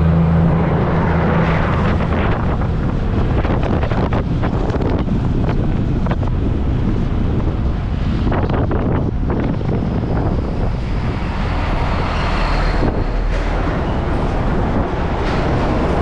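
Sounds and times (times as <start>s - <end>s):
large truck passing: 0.0s - 16.0s
road and traffic noise: 0.0s - 16.0s
wind rushing over microphone: 0.0s - 16.0s.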